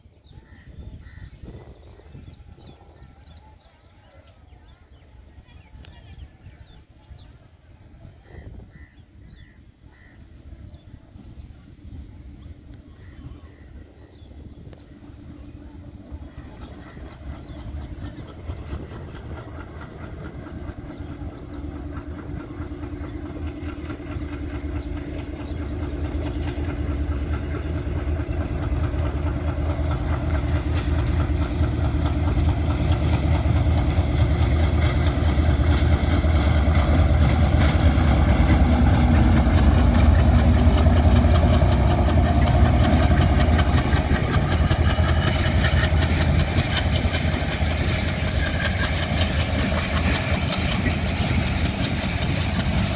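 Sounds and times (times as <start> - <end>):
diesel locomotive engine drone: 0.0 - 52.9
train wheels rattling on rails: 0.1 - 52.9.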